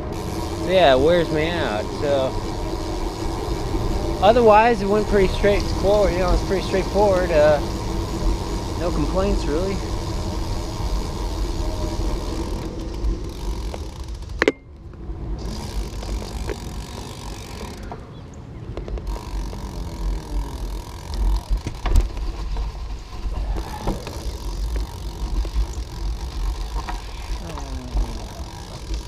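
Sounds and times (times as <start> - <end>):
tyre and road noise: 0.0 - 29.0
wind rumbling on microphone: 0.0 - 29.0.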